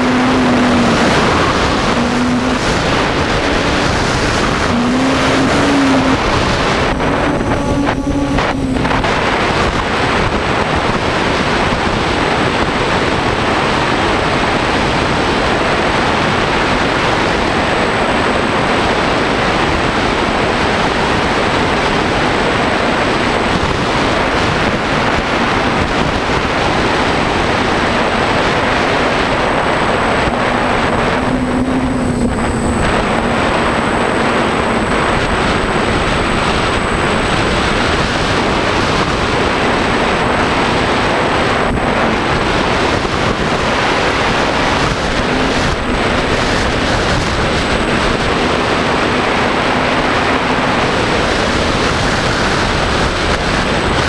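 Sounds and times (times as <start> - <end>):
wavering motor hum: 0.0 - 13.8, 23.2 - 54.0
wind buffeting microphone: 0.0 - 54.0.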